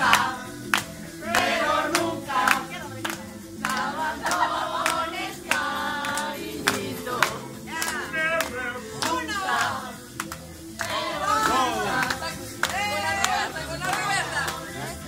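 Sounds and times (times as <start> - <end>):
hands clapping: 0.0 - 15.0
upbeat song with voices singing: 0.0 - 15.0.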